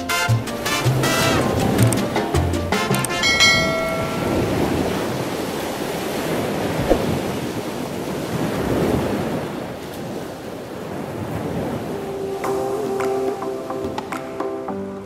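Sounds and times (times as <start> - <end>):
sea waves: 0.0 - 15.0
wind: 0.0 - 15.0.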